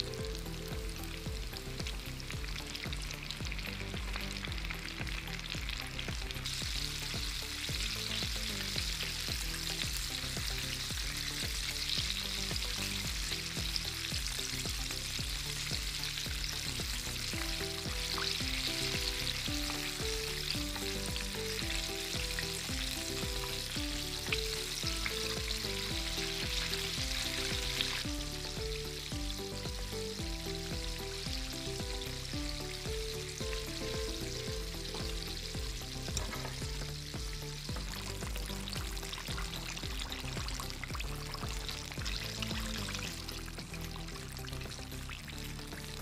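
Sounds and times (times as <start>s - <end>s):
chicken deep-frying in oil: 0.0s - 46.0s.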